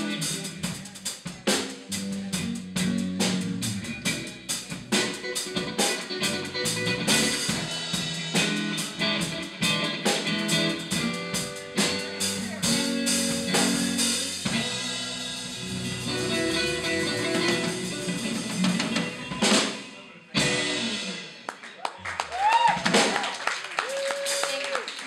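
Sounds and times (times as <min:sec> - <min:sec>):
electric guitar: 0:00.0 - 0:00.8, 0:01.4 - 0:21.7
drum kit: 0:00.0 - 0:21.7, 0:22.3 - 0:24.7
bass guitar: 0:00.0 - 0:23.2.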